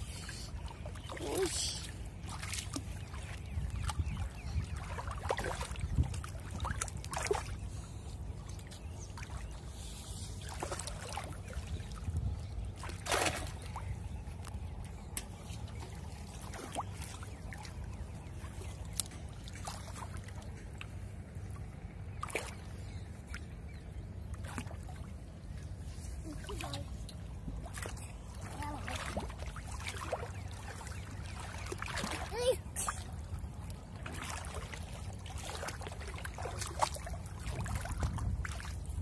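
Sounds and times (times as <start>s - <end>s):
shallow water splashing: 0.0s - 39.0s
steady low rumble: 0.0s - 39.0s.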